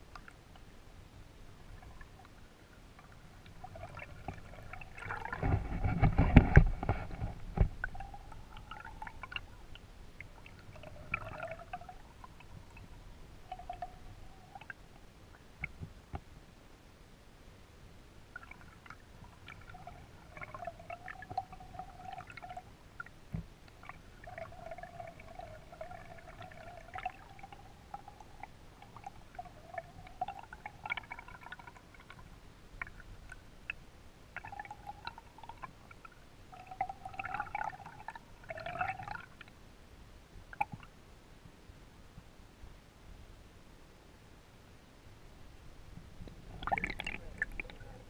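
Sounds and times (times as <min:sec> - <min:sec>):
underwater gurgling tones: 0:00.0 - 0:16.0, 0:18.2 - 0:39.5, 0:46.2 - 0:48.0.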